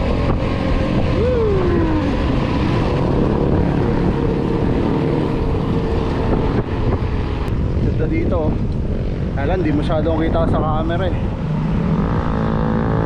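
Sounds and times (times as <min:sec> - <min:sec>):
falling whine: 0:00.0 - 0:13.0
mountain bike rolling rumble: 0:00.0 - 0:13.0
wind rushing over microphone: 0:00.0 - 0:13.0.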